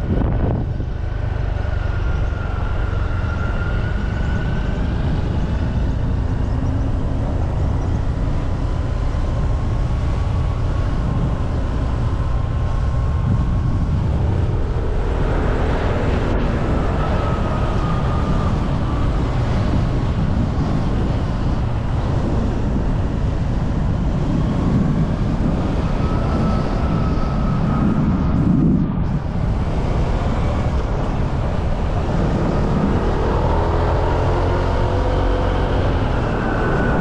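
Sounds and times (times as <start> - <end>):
motorbike engine hum: 0.0 - 37.0
wind rush on microphone: 0.0 - 37.0.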